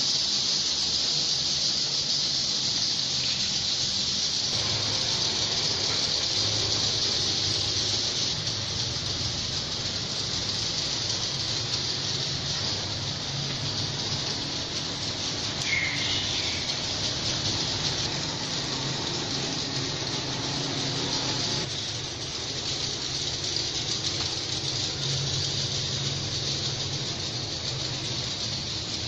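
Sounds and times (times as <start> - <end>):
chatter of many swiftlets: 0.0 - 29.0.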